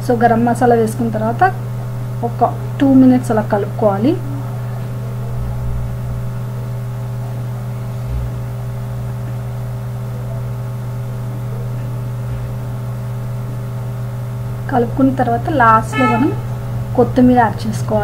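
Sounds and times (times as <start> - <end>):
deep machine hum: 0.0 - 18.0.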